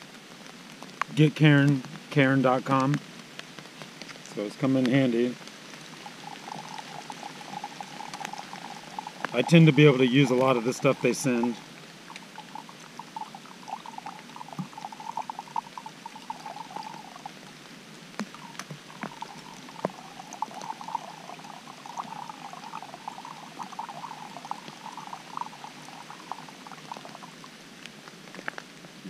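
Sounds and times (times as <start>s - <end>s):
water trickling into a container: 4.3s - 27.6s.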